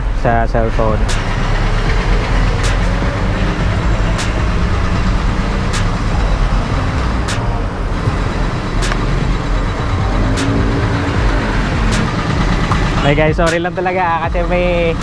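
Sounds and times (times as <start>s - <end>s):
engine low rumble: 0.0s - 15.0s
sharp ticking: 0.0s - 15.0s.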